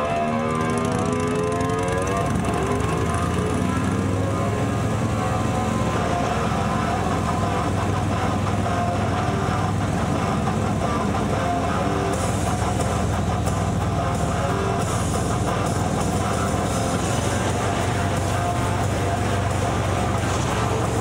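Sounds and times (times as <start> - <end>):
music playing: 0.0 - 21.0
vehicle engine rumble: 0.0 - 21.0.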